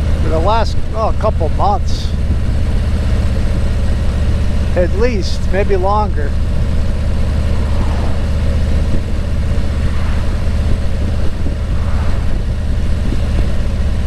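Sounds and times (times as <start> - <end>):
road travel rumble: 0.0 - 14.0.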